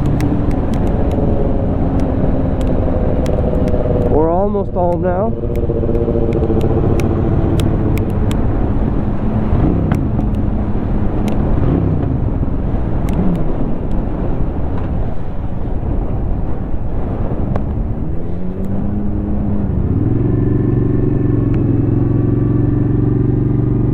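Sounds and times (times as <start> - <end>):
motorcycle engine running: 0.0 - 23.9
wind and road noise: 0.0 - 23.9.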